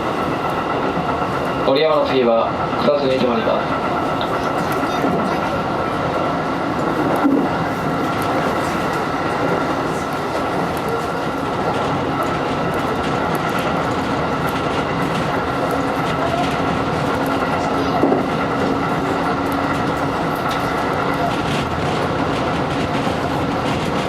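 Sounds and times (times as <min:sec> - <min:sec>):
electric train rolling rumble: 0:00.0 - 0:24.0
train high whine: 0:00.0 - 0:24.0
wheels clicking over rail joints: 0:00.0 - 0:24.0.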